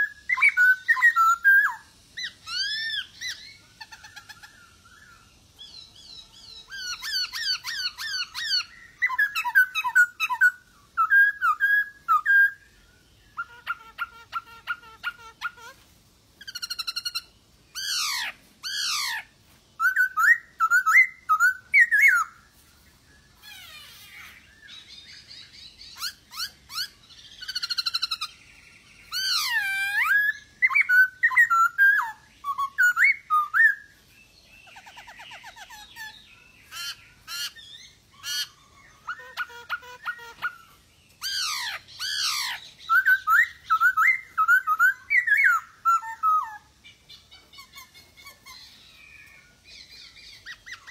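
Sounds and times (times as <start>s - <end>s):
bird singing whistled notes: 0.0s - 15.8s, 16.4s - 50.9s.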